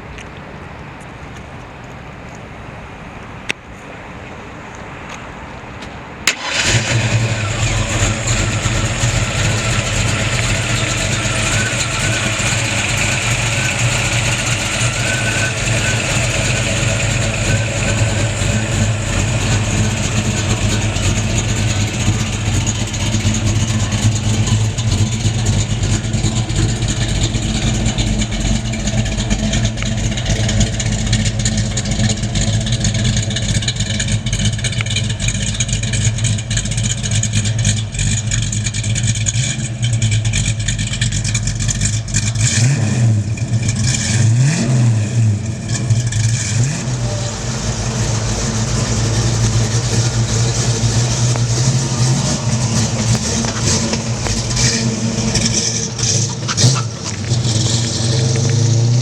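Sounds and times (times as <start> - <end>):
car engine revving: 6.3 - 59.0.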